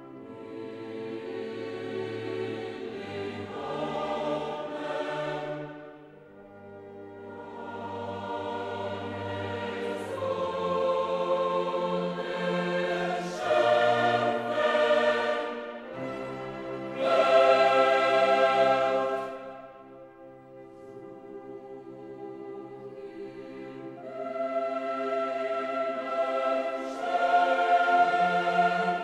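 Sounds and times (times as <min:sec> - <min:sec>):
choir singing over orchestra: 0:00.0 - 0:29.0.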